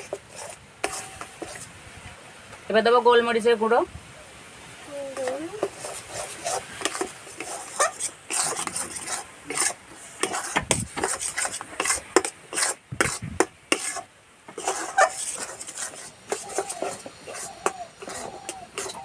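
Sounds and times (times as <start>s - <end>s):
metal spatula scraping pan: 0.0s - 1.7s, 5.2s - 19.0s.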